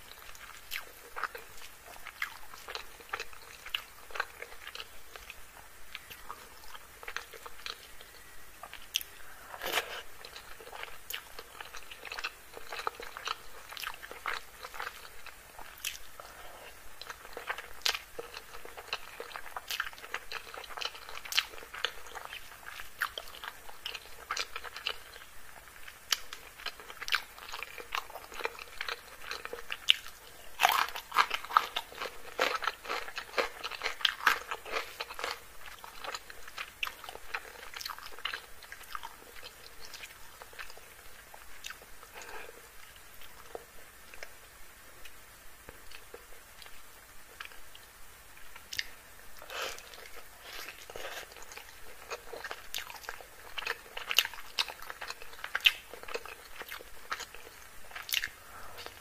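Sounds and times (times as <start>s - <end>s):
close-up chewing and crunching: 0.0s - 44.3s, 48.5s - 59.0s.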